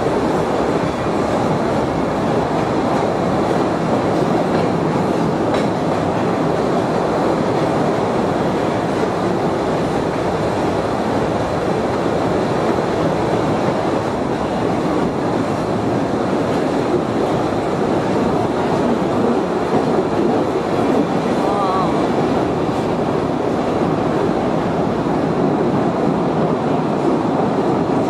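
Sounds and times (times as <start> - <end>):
train wheels on rail: 0.0 - 28.0.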